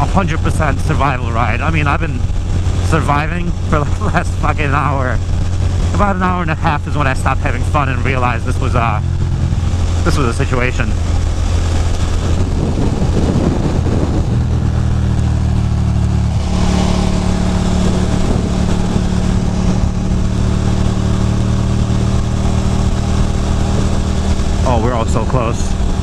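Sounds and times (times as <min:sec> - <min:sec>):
motorcycle engine cruising: 0:00.0 - 0:26.0
wind noise: 0:00.0 - 0:26.0.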